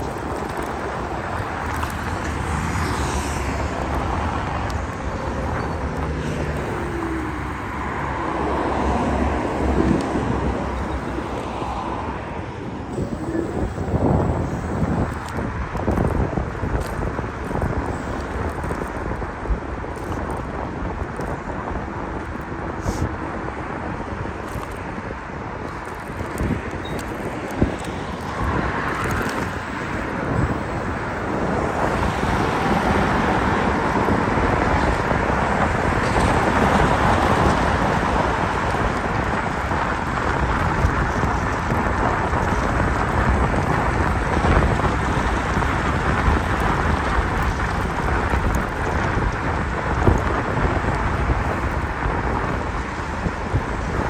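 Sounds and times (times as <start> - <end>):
road and tyre rumble: 0.0 - 54.0
wind buffeting microphone: 0.0 - 54.0.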